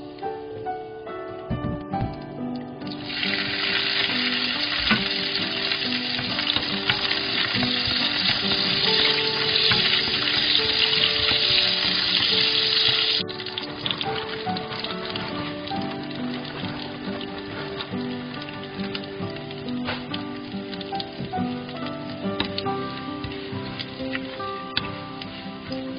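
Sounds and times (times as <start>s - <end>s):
garlic sizzling in hot oil: 2.8s - 25.9s.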